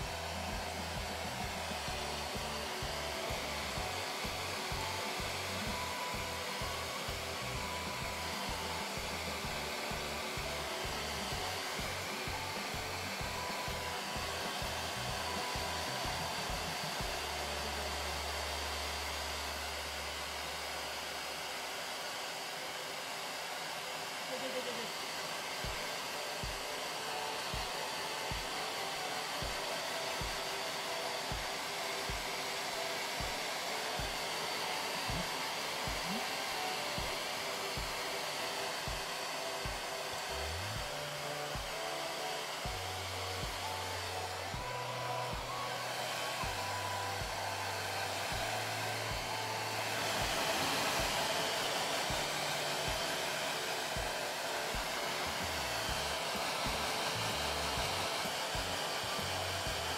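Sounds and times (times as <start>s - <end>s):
background music with low beat: 0.0s - 21.4s, 25.6s - 59.9s
hair dryer blowing: 0.0s - 59.9s.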